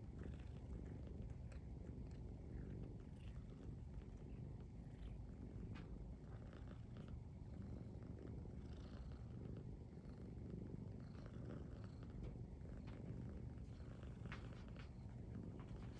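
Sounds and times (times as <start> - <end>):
cat purring: 0.0 - 15.9.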